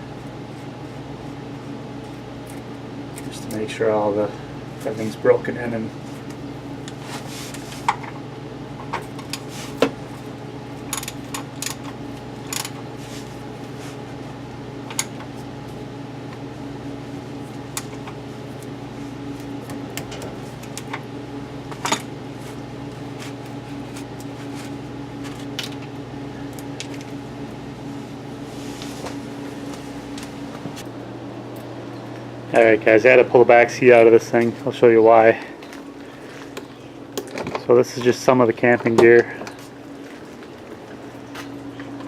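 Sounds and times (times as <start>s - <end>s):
steady electrical hum: 0.0s - 42.0s.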